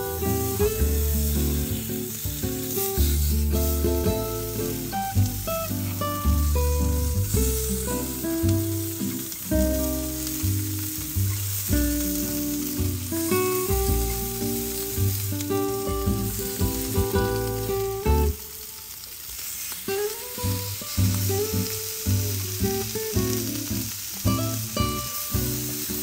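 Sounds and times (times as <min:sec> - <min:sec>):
meat sizzling on grill: 0:00.0 - 0:26.0.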